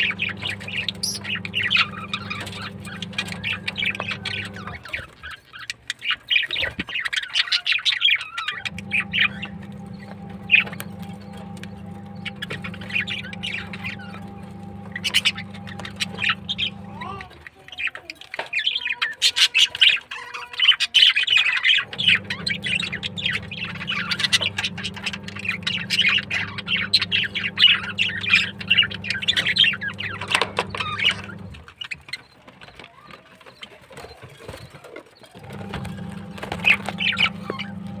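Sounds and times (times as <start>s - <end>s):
small birds chattering: 0.0s - 38.0s.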